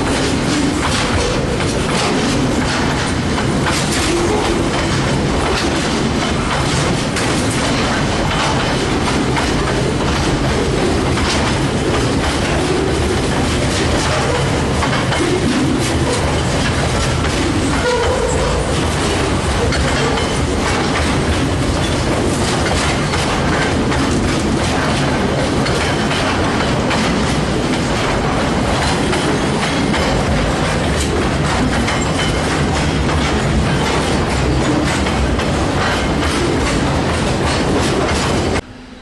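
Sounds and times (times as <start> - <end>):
train wheels clicking over rail joints: 0.0 - 38.6
freight train running noise: 0.0 - 39.0.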